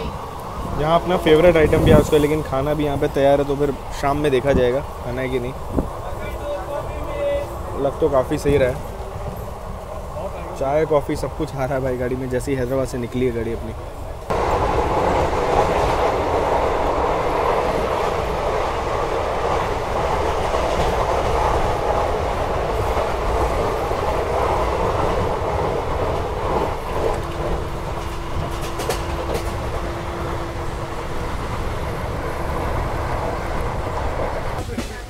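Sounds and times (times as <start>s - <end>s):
rush of wheels and wind: 0.0s - 11.8s, 13.8s - 34.6s.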